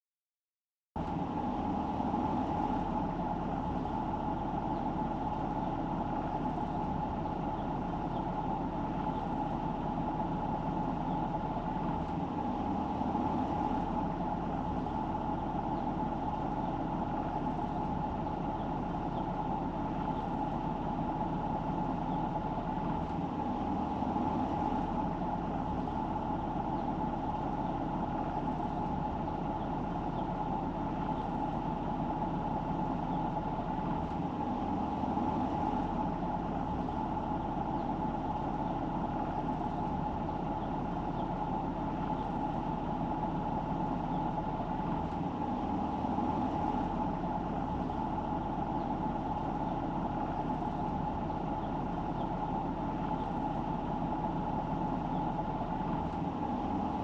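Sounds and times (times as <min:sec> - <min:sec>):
car engine and tyre hum: 0:01.0 - 0:57.0
constant mid-pitched tone: 0:01.0 - 0:57.0.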